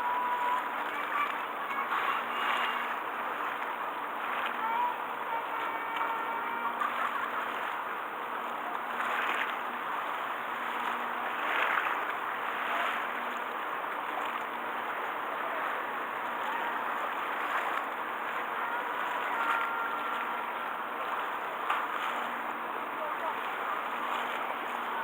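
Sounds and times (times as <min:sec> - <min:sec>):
sea water washing and sloshing: 0:00.0 - 0:25.0.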